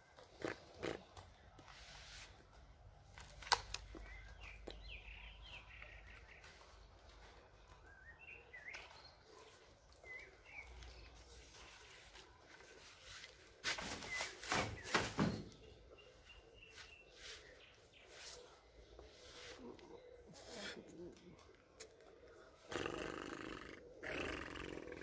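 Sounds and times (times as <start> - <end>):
birds chirping: 3.7 - 25.0.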